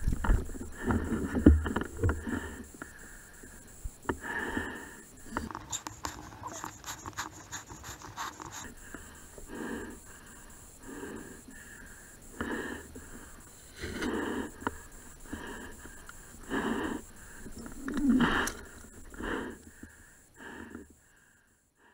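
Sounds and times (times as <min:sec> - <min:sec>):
man breathing heavily: 0:00.6 - 0:05.3, 0:07.8 - 0:21.9.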